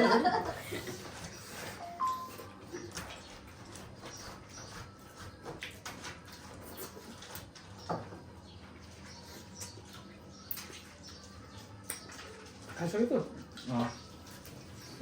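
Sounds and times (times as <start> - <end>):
chewing and sucking: 0.9 - 7.9, 8.5 - 15.0.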